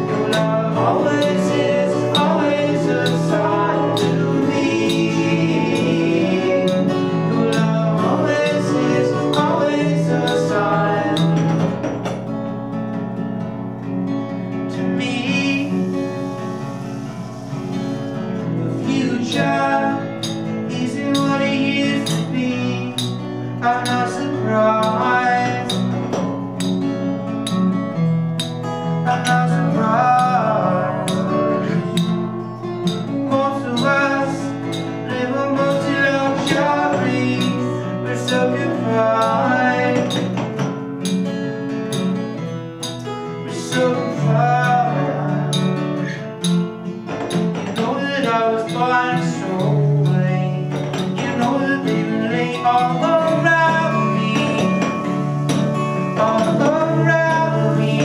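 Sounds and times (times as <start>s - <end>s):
person singing: 0.0s - 12.3s, 14.7s - 26.8s, 28.9s - 41.2s, 42.8s - 58.0s
strummed acoustic guitar: 0.0s - 58.0s.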